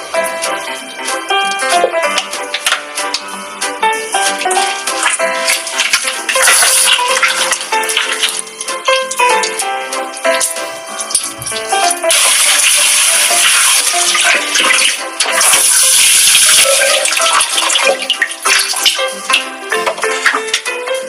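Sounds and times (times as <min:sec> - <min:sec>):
light background music: 0:00.0 - 0:21.0.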